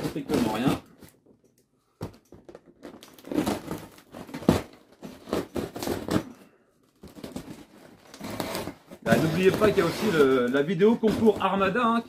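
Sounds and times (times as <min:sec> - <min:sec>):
packing rustling and crinkling: 0:02.0 - 0:12.0.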